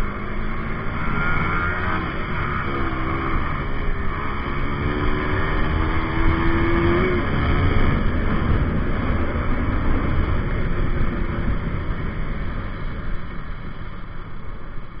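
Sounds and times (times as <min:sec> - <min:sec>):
motorcycle engine: 0:00.0 - 0:15.0
wind rushing over microphone: 0:00.0 - 0:15.0.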